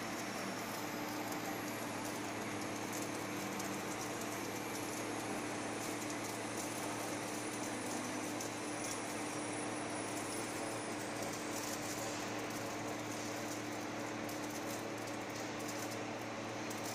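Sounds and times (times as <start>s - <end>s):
ice machine motor hum: 0.0s - 16.9s.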